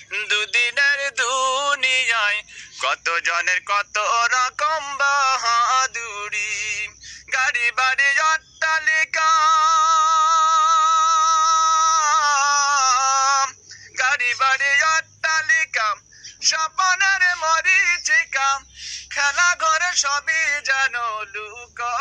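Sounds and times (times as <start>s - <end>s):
man singing: 0.0s - 22.0s.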